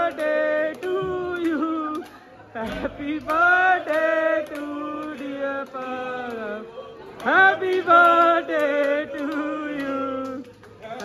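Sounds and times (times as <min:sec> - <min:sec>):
hand clapping: 0:00.0 - 0:11.0.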